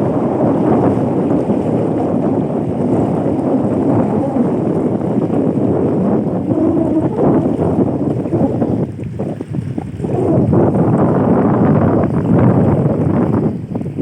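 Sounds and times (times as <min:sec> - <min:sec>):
boat noise: 0:00.0 - 0:14.0
wind buffeting microphone: 0:00.0 - 0:14.0.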